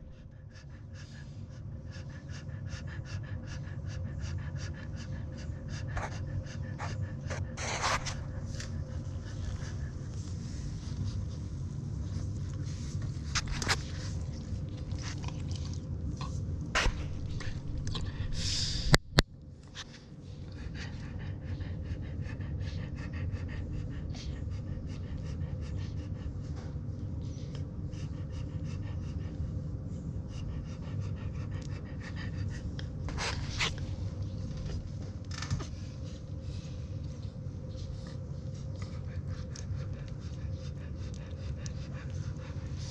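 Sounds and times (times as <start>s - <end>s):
dog panting: 0.0s - 19.0s, 19.7s - 42.9s.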